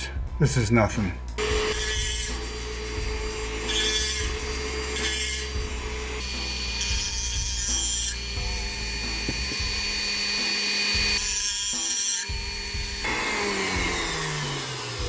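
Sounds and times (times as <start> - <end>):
grinding tool motor whining: 1.3 - 15.0
harsh grinding of metal: 1.4 - 15.0.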